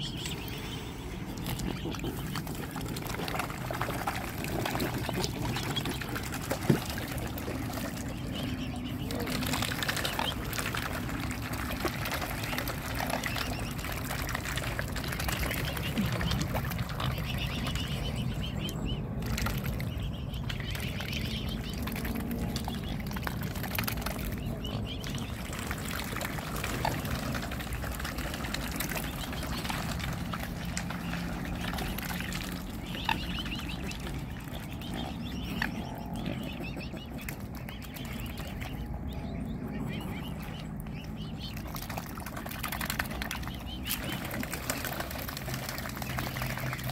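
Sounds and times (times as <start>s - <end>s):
swans dabbling in water: 0.0s - 46.9s.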